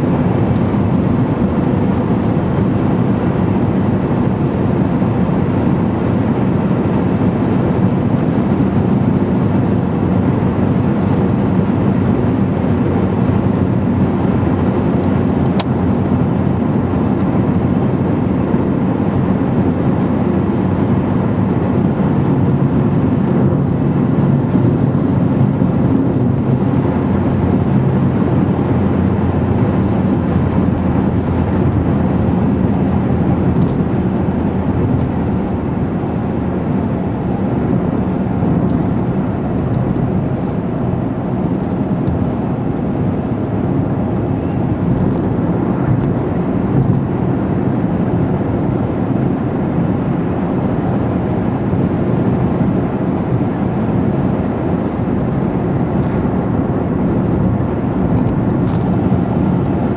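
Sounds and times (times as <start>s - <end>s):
car engine hum and road noise: 0.0s - 59.9s.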